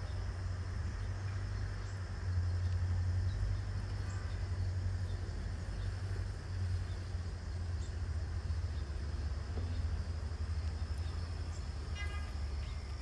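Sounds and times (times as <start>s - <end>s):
faint high-pitched hum: 0.0s - 13.0s
steady low rumble: 0.0s - 13.0s.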